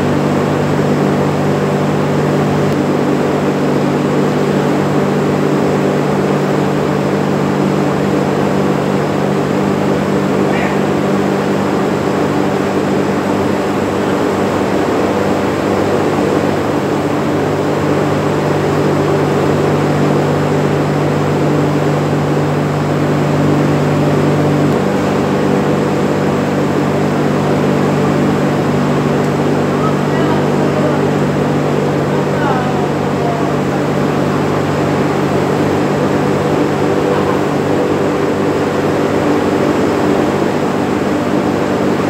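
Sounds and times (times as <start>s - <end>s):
pump motor humming: 0.0s - 42.0s.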